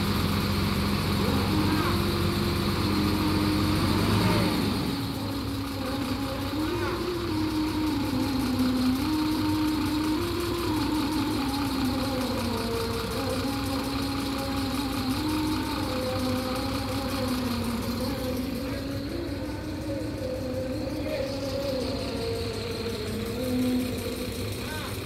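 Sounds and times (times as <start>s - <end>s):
diesel bus engine idling: 0.0s - 25.0s
wavering tone: 1.2s - 24.7s.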